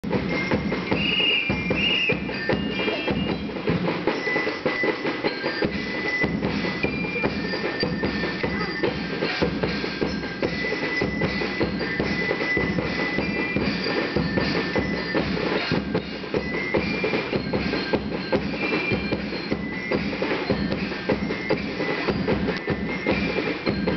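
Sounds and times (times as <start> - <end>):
music with steady drum beat: 0.0 - 23.9.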